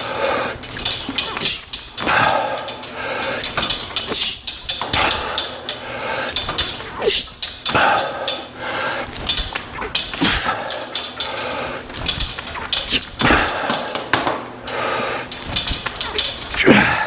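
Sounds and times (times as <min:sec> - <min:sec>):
man breathing hard: 0:00.0 - 0:00.6, 0:01.2 - 0:09.6, 0:10.2 - 0:15.4
metal gym equipment clanking: 0:00.0 - 0:17.0.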